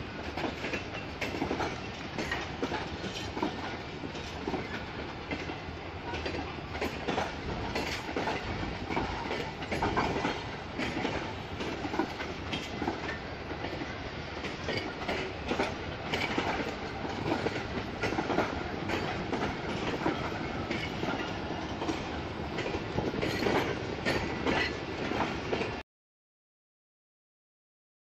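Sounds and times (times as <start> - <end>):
wheels clattering over rail joints: 0.2 - 25.8.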